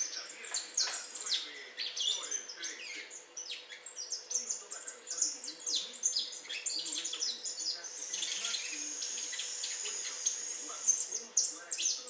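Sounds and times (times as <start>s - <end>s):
fledgling songbird twittering: 0.0s - 12.0s.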